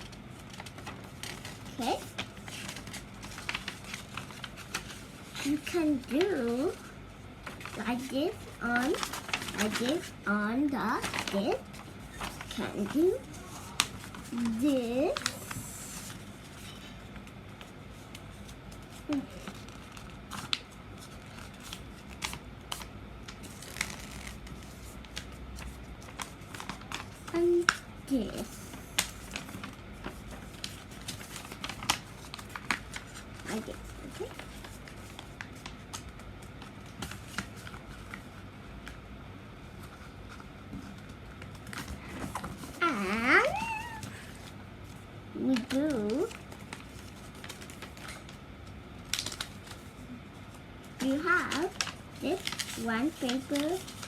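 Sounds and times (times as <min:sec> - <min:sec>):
paper rustling and crinkling: 0:00.0 - 0:39.0, 0:39.6 - 0:54.0.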